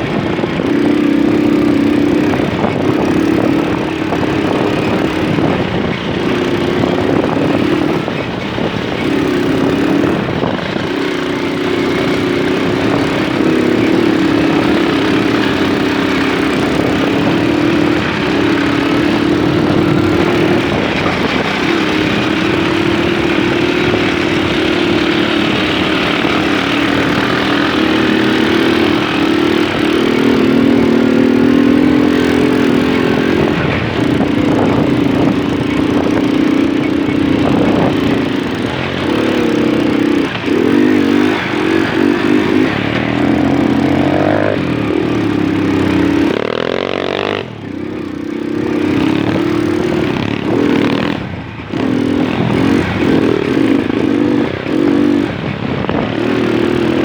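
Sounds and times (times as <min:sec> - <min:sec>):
moped engine running: 0:00.0 - 0:57.0
steady rush of noise: 0:00.0 - 0:57.0.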